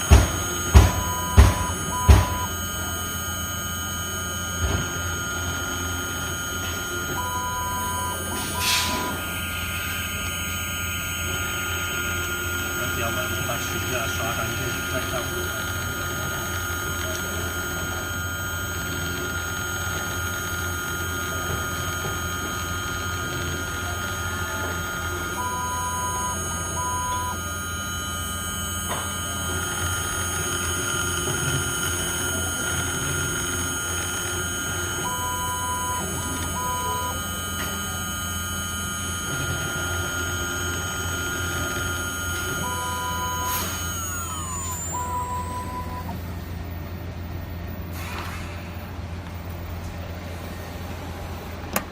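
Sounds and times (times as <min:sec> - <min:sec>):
short beeps: 0:00.0 - 0:46.2
cnc router whining: 0:00.0 - 0:47.6.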